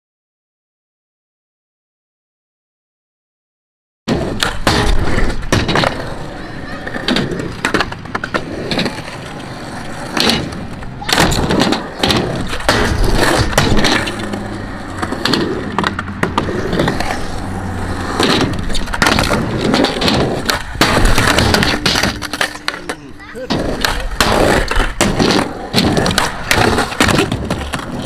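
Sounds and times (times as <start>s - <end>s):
skateboard clacking on ground: 4.1s - 28.0s
skateboard wheels rolling on concrete: 4.1s - 28.0s.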